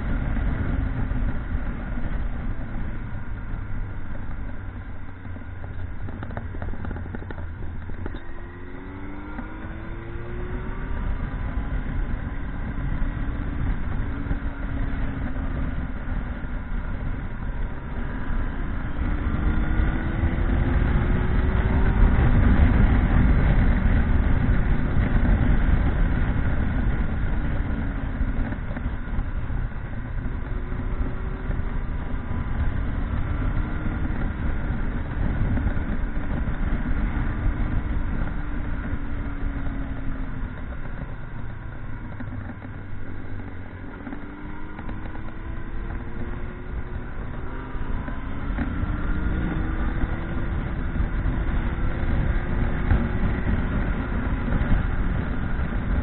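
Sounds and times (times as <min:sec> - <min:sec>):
motorcycle engine revving: 0:00.0 - 0:56.0
wind and road rumble: 0:00.0 - 0:56.0.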